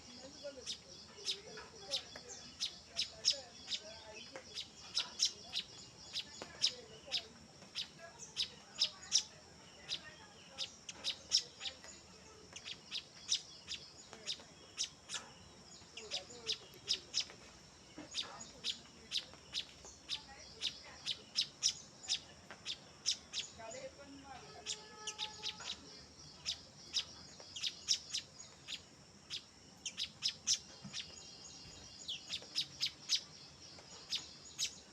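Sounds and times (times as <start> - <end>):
sparrows chirping: 0.0 - 34.9.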